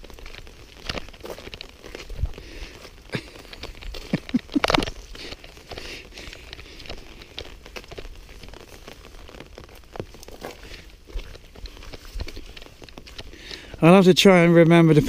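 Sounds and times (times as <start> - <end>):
rain pattering on umbrella: 0.0 - 15.0.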